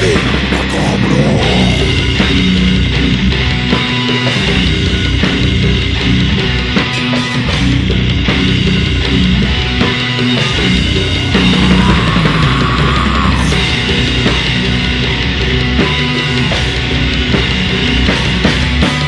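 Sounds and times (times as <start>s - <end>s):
drum kit: 0.0s - 19.0s
heavy distorted electric guitar: 0.0s - 19.0s.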